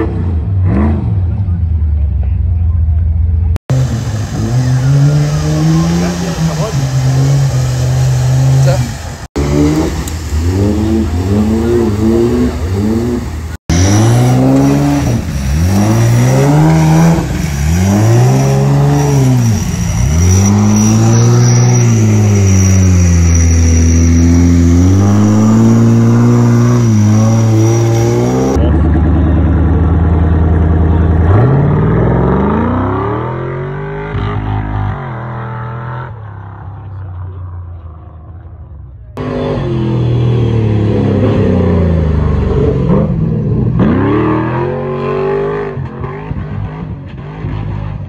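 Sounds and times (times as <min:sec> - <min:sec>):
engine revving in surges: 0:03.6 - 0:37.0, 0:39.1 - 0:48.0.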